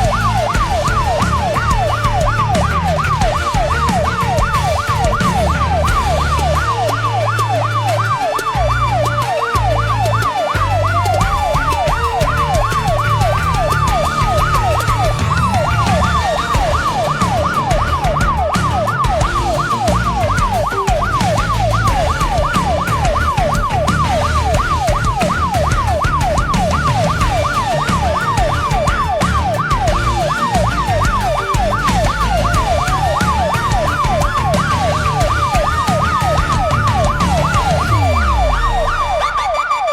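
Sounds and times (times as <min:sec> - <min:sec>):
siren fast yelp: 0:00.0 - 0:39.9
siren slow wail: 0:00.0 - 0:39.9.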